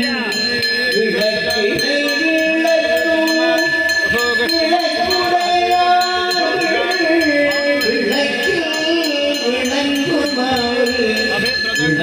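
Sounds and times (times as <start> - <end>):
brass hand bell ringing: 0.0 - 12.0
devotional music: 0.0 - 12.0.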